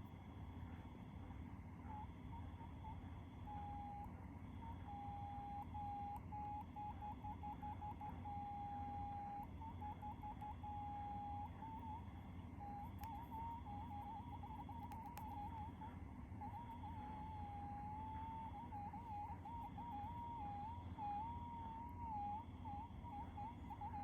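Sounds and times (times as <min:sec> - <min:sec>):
rapid wavering chirps: 0:04.6 - 0:24.0.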